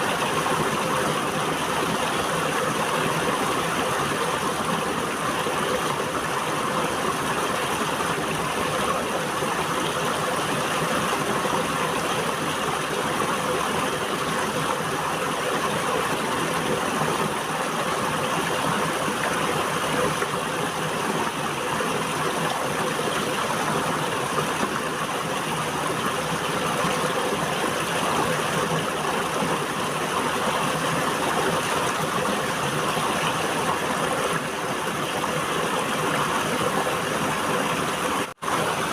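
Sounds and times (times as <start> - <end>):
water flowing over rocks: 0.0 - 38.9.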